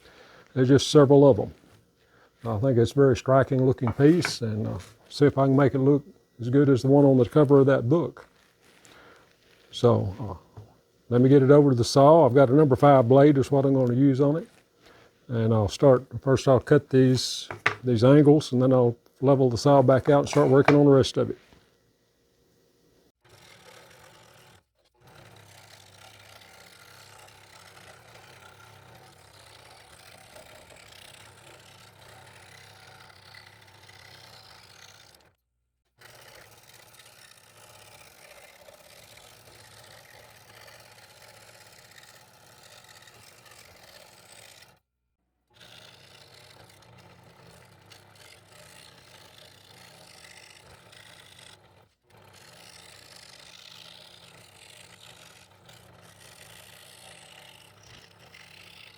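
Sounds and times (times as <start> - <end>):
scroll saw cutting wood: 0.0 - 21.4, 23.2 - 44.9, 45.5 - 58.9.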